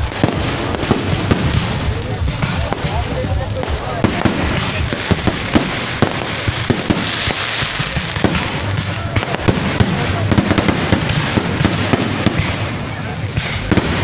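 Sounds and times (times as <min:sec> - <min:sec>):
fireworks popping and banging: 0:00.0 - 0:14.0.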